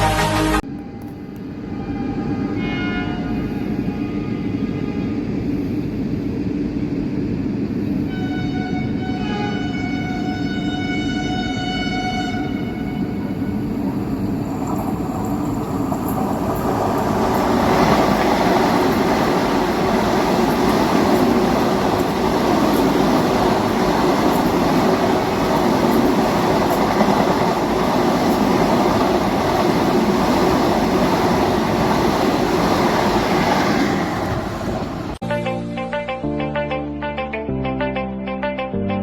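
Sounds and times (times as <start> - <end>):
train wheels rushing on rails: 0.8 - 35.2.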